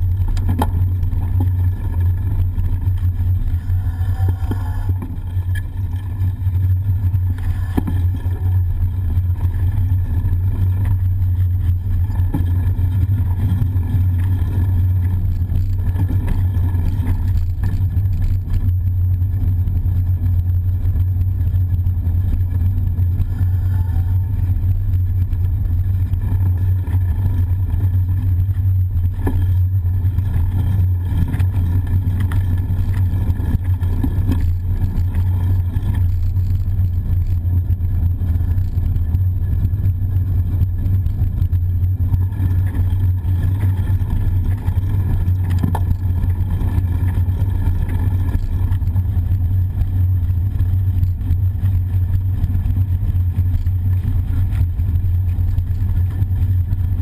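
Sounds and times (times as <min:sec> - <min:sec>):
bicycle riding rumble: 0:00.0 - 0:57.0.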